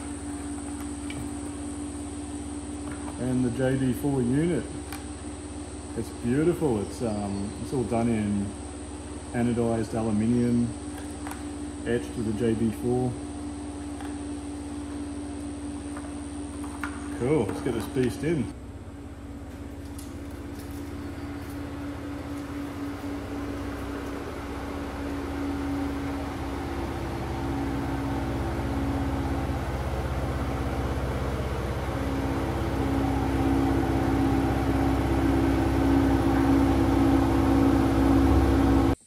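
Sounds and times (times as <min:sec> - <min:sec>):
truck engine drone: 0:00.0 - 0:39.0.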